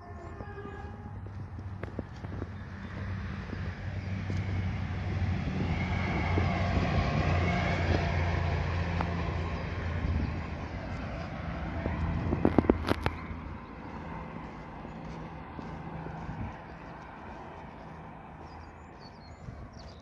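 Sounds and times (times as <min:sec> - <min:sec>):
distant passenger train passing: 0:00.0 - 0:20.0.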